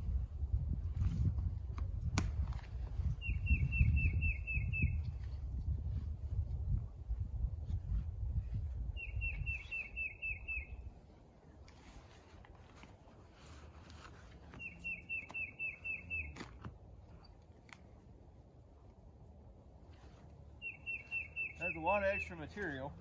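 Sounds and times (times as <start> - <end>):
songbird singing: 2.7 - 12.8, 13.4 - 18.9, 19.8 - 23.0.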